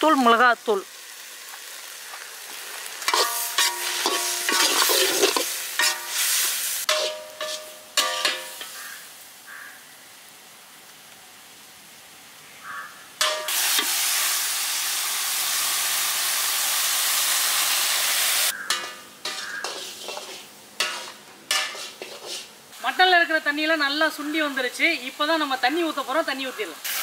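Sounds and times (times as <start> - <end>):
meat sizzling in a pan: 0.0 - 27.0.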